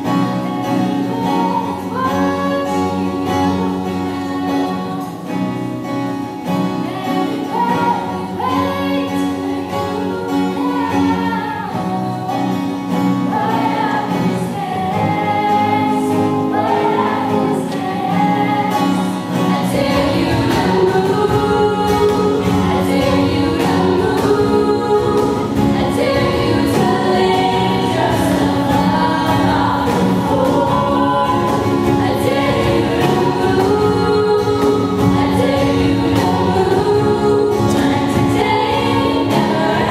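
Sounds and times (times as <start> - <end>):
female vocal group singing: 0.0 - 39.9.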